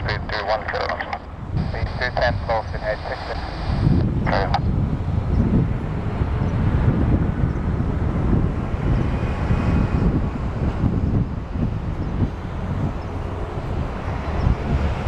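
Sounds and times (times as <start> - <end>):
jet engine rumble: 0.0 - 15.0
wind on microphone: 0.0 - 15.0.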